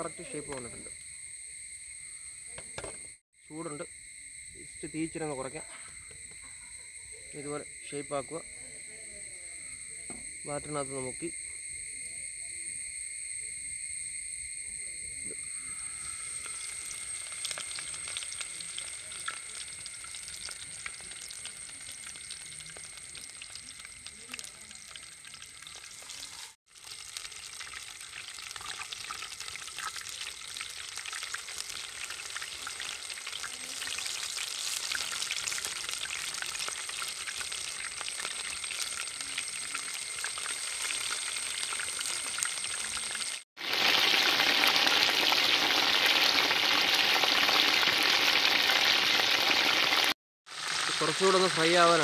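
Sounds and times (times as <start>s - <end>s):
food deep-frying in oil: 0.0s - 13.0s, 13.8s - 52.0s.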